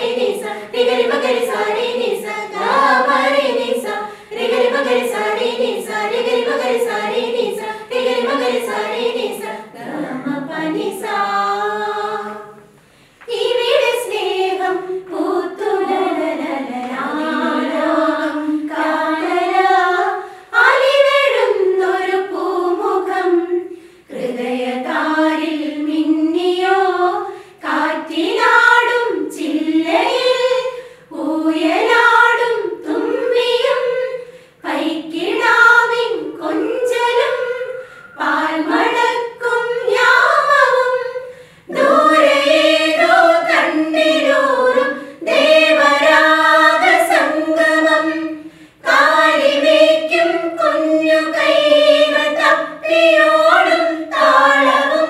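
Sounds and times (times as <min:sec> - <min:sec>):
women singing unaccompanied: 0:00.0 - 0:55.0.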